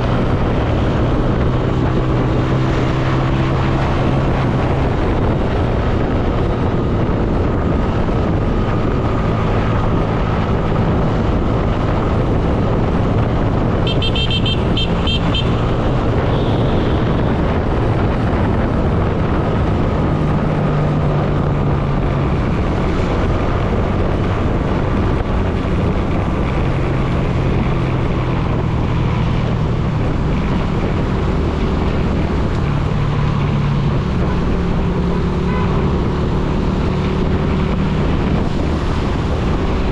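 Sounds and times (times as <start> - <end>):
road traffic: 0.0 - 39.9
wind rushing over microphone: 0.0 - 39.9.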